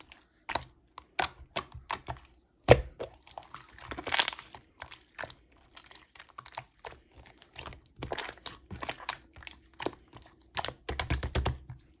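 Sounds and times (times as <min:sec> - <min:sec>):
slime squelching and popping: 0:00.0 - 0:12.0.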